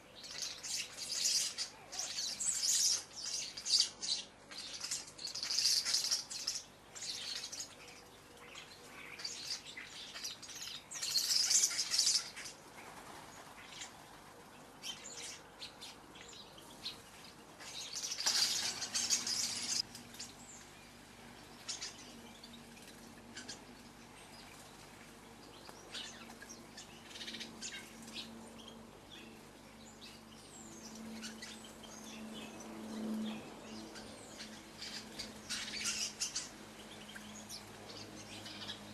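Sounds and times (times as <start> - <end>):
small birds chirping and twittering: 0.0 - 38.9.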